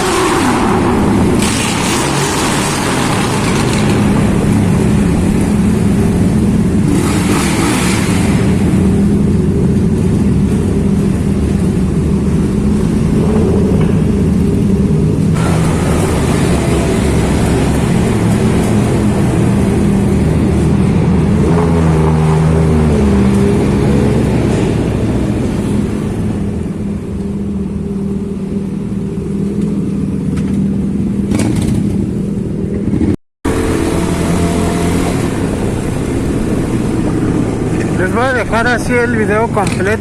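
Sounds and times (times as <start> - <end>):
motorcycle engines in tunnel: 0.0 - 40.0.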